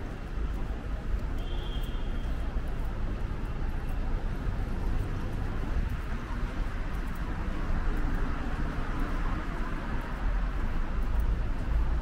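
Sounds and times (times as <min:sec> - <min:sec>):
city traffic rumble: 0:00.0 - 0:12.0
footsteps on paving stones: 0:00.0 - 0:12.0.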